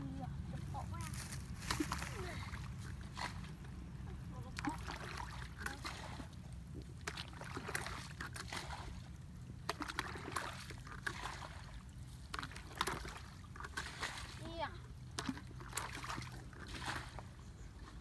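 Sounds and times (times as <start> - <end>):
muddy water splashing: 0.0 - 18.0.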